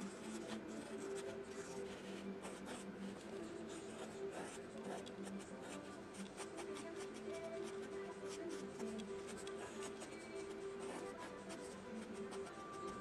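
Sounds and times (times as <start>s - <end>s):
pen scratching on paper: 0.0s - 13.0s
soft background music: 0.0s - 13.0s.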